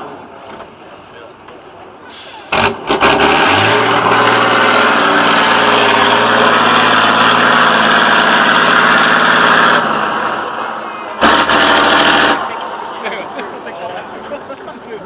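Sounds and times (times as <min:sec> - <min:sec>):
truck diesel engine running hard: 0:01.8 - 0:14.5.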